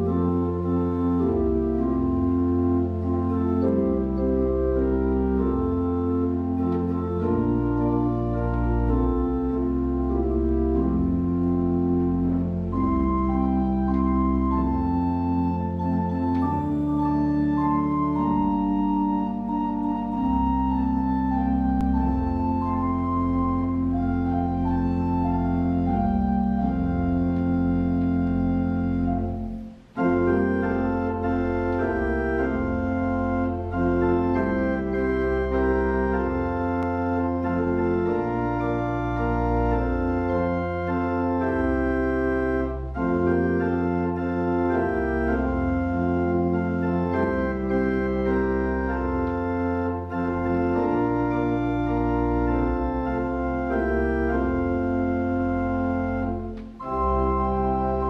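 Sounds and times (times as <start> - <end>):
church organ playing a hymn: 0.0 - 58.0.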